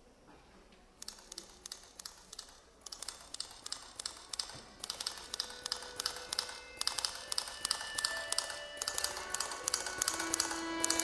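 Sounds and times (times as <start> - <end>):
keyboard typing clicks: 1.0 - 11.0.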